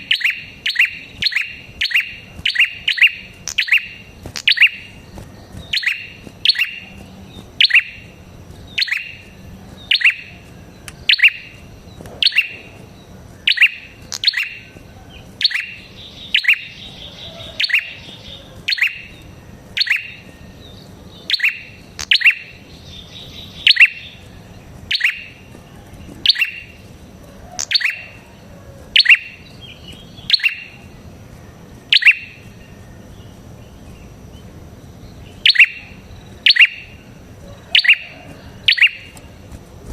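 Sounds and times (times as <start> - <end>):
bird chip call: 0.0 - 31.0, 31.9 - 33.4, 35.2 - 39.4
soft bird twittering: 0.0 - 39.9.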